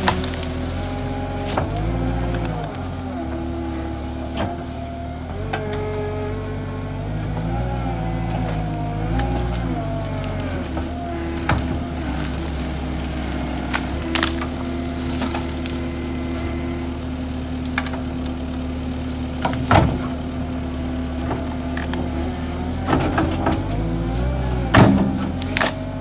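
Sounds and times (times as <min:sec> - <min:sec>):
wood cracking and snapping: 0:00.0 - 0:03.5, 0:05.4 - 0:26.0
diesel engine running: 0:00.0 - 0:26.0.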